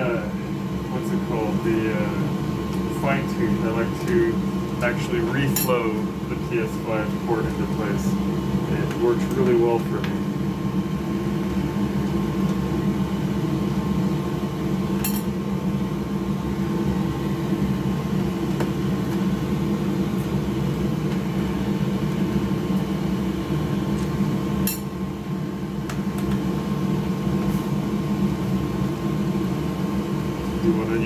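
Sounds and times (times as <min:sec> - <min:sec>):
mechanical fan humming: 0:00.0 - 0:31.0.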